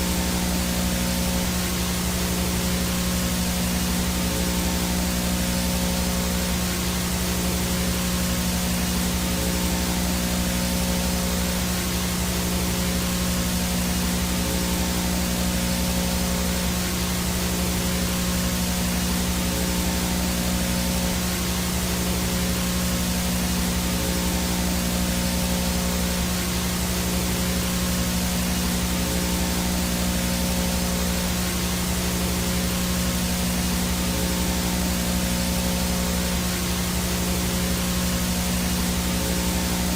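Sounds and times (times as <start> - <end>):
low buzzing hum: 0.0 - 39.9
static hiss: 0.0 - 39.9.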